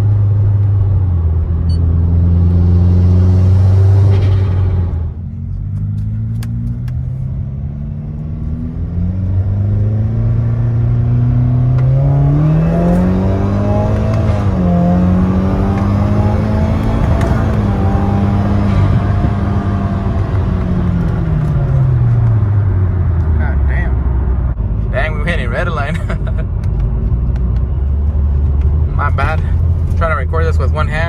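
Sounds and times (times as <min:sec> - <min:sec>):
turbocharged car engine pulling: 0:00.0 - 0:31.0.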